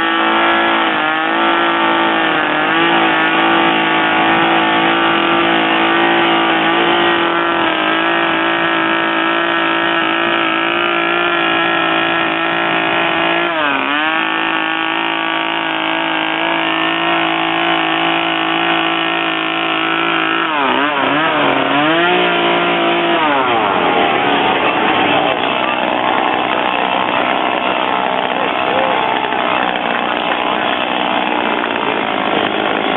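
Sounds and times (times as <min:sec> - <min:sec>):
chainsaw running at high revs: 0:00.0 - 0:32.9.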